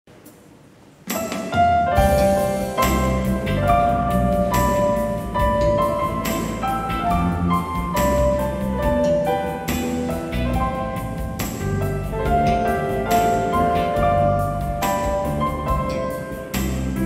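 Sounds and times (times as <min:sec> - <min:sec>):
piano with bass and beat: 0:01.0 - 0:17.0.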